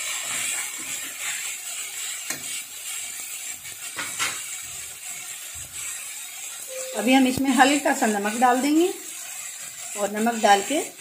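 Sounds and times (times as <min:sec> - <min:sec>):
metal spatula scraping a pan: 0:00.0 - 0:11.0
onions and tomatoes sizzling in oil: 0:00.0 - 0:11.0.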